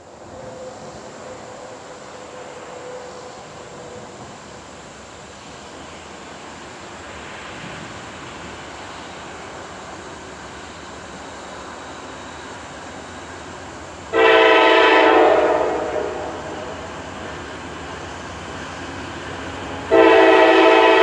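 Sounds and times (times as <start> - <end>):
distant freight train rumble: 0.0 - 21.0.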